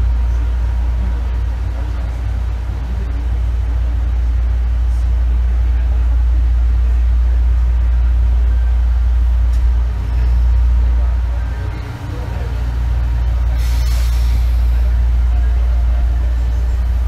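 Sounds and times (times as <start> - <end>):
train running gear rumble: 0.0 - 17.0.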